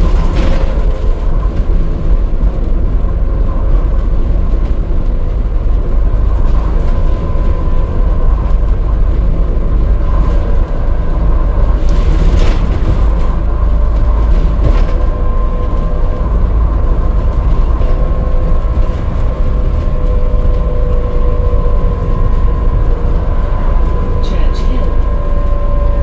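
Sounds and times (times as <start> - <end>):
bus road and drivetrain rumble: 0.0 - 26.0
faint axle whine: 0.0 - 26.0.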